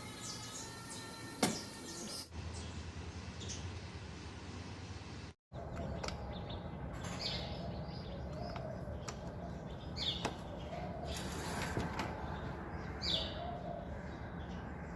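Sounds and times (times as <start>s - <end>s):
birds chirping: 0.1s - 4.4s, 5.5s - 14.9s.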